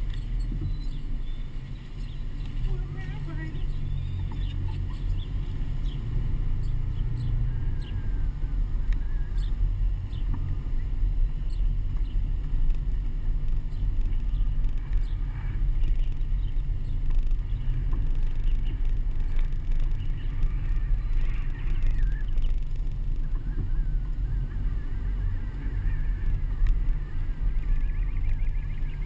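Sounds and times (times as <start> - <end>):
pickup truck driving slowly: 0.0 - 29.0.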